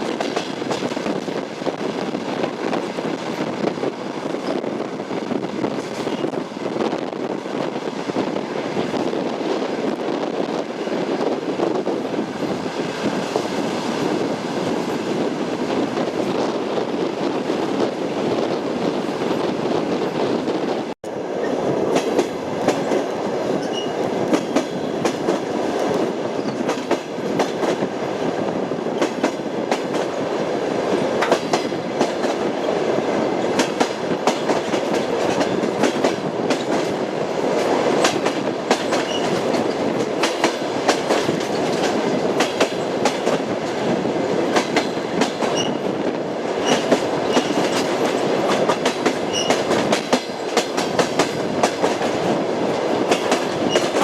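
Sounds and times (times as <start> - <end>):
train wheels clacking on rails: 0.0 - 20.2, 20.8 - 54.0.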